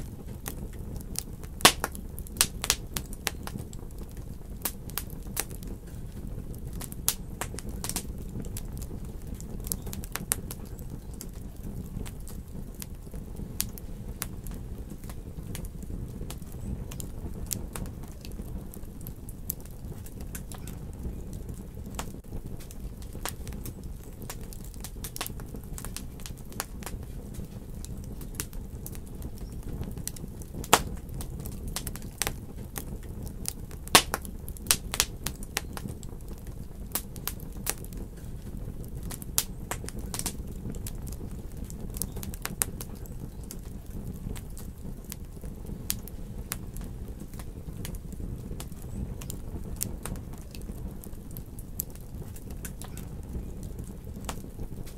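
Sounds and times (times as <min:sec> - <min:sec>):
fire low rumble: 0:00.0 - 0:54.9
wood fire crackling and popping: 0:00.0 - 0:54.9.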